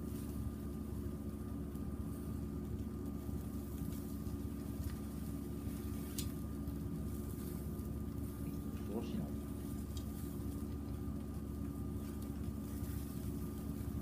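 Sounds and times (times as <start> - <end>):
fire crackles: 0.0 - 14.0
wood fire rumble: 0.0 - 14.0.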